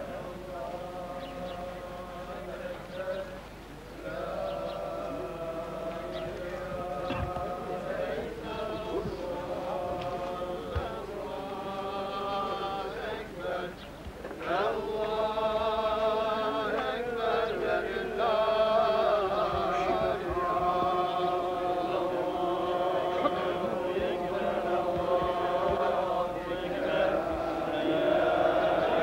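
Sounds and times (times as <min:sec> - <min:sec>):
men chanting in unison: 0:00.0 - 0:03.4, 0:04.0 - 0:29.0.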